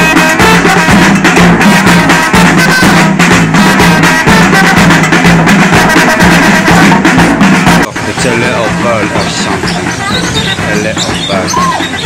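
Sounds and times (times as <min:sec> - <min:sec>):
shoulder-slung drum: 0:00.0 - 0:12.0
stick-struck drums: 0:00.0 - 0:12.0.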